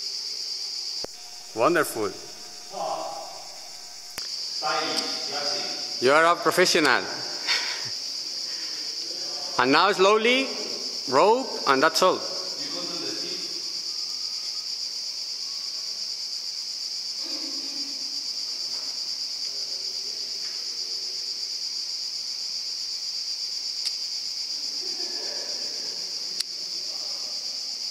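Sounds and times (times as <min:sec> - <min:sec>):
insects chorus: 0:00.0 - 0:27.9.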